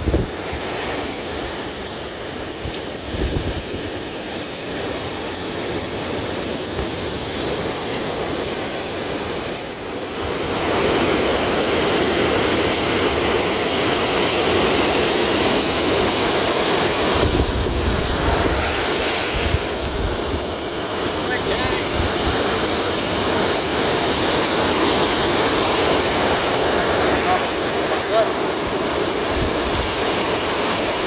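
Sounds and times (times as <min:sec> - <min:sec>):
waves washing on sand: 0:00.0 - 0:31.0
wind buffeting microphone: 0:00.0 - 0:31.0.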